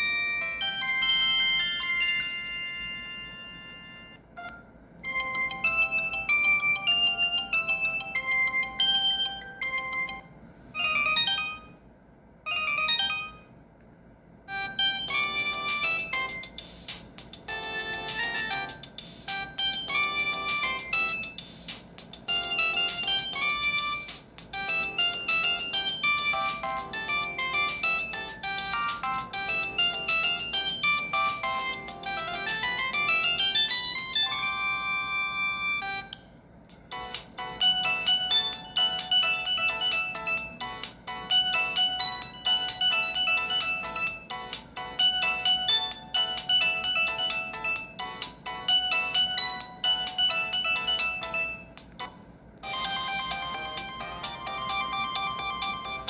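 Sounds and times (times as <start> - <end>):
polyphonic phone ringtone: 0.0 - 13.7, 14.5 - 16.7, 17.5 - 21.6, 22.2 - 36.2, 36.9 - 56.0.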